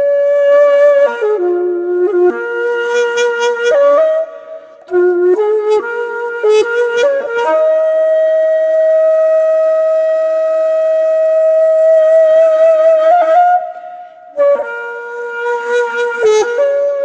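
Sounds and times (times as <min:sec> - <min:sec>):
solo flute-like wind instrument: 0:00.0 - 0:17.0.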